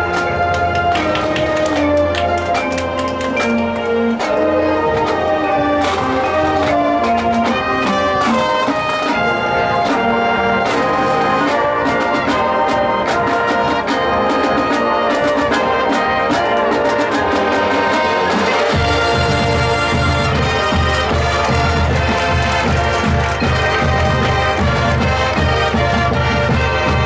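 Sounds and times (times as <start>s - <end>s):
marching band playing: 0.0s - 27.0s
percussion hits: 0.0s - 27.0s
trumpets and trombones: 0.0s - 27.0s.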